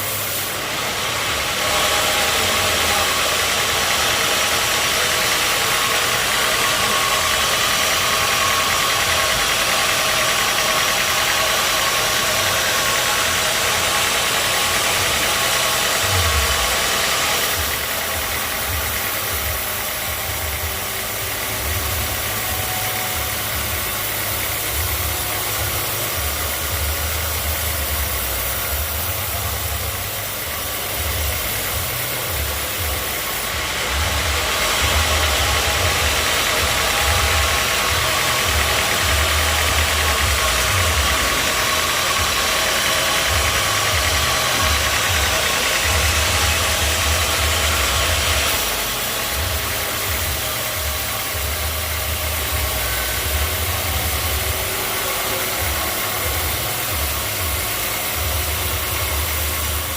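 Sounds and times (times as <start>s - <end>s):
saw cutting through log: 0.0s - 59.9s
sawmill engine running: 0.0s - 59.9s.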